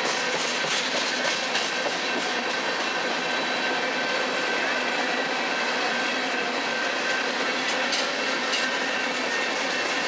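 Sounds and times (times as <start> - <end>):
train wheels clattering on rails: 0.0 - 10.0.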